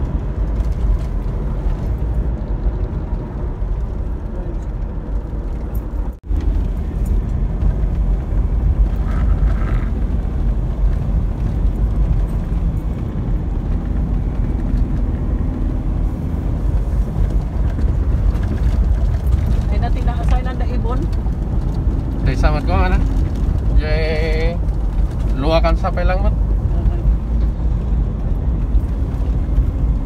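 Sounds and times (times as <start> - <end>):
car driving cabin rumble: 0.0 - 30.0.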